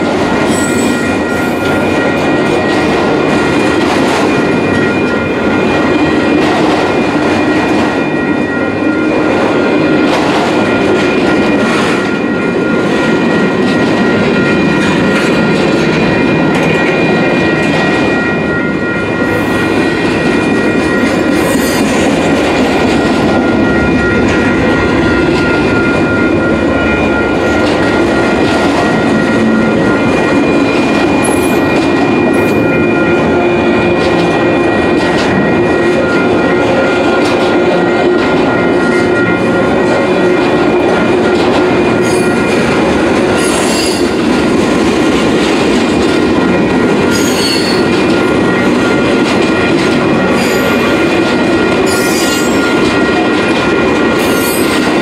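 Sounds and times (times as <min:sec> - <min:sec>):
freight train wheels rumbling on rail: 0:00.0 - 0:55.0
high-pitched tone: 0:00.4 - 0:55.0.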